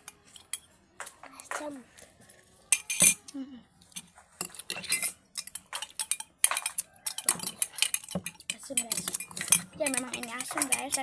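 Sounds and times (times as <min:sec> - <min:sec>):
metal spoon clinking on dish: 0:00.0 - 0:01.6, 0:02.7 - 0:11.0.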